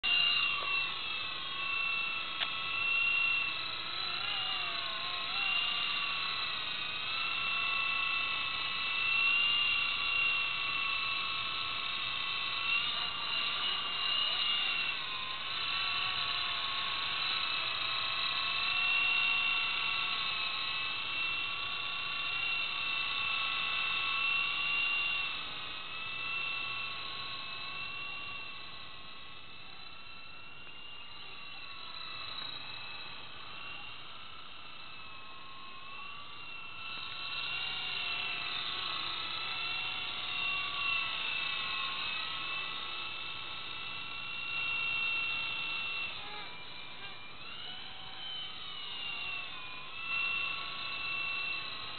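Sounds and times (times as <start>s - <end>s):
model helicopter rotor whine: 0.0s - 51.9s.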